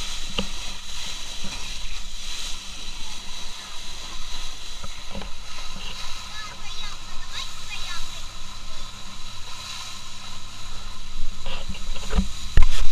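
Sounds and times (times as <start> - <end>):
boat engine running: 0.0 - 12.9
rushing water hiss: 0.0 - 12.9.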